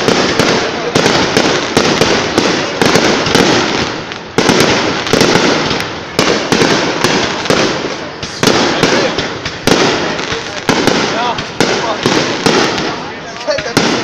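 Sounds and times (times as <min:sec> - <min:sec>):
big bangs: 0:00.0 - 0:14.0
fireworks bursting: 0:00.0 - 0:14.0
fireworks crackle: 0:00.0 - 0:14.0.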